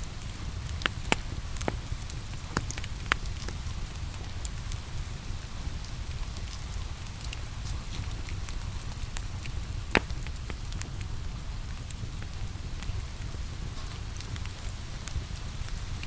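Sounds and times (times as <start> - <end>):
rain falling: 0.0 - 16.0
wood fire crackling and popping: 0.0 - 16.0.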